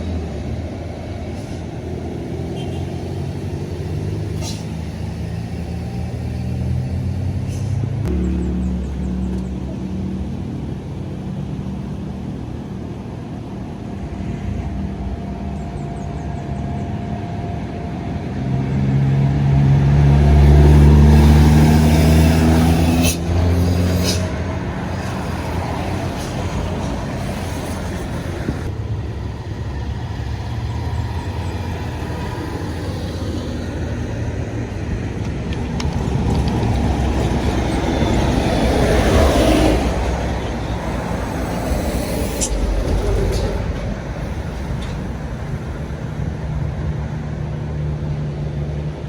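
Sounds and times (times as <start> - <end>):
heavy vehicle engine passing: 0.0 - 49.0
traffic going past: 0.0 - 49.0.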